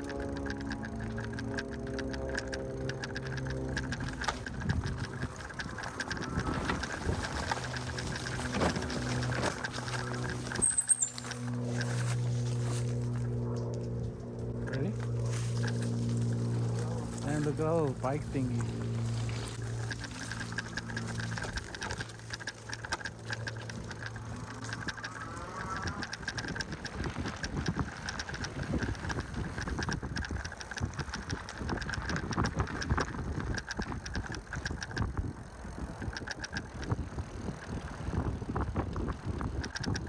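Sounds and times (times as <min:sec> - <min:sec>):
bike frame rattling: 0:00.0 - 0:40.0
low rumble of rolling: 0:00.0 - 0:40.0.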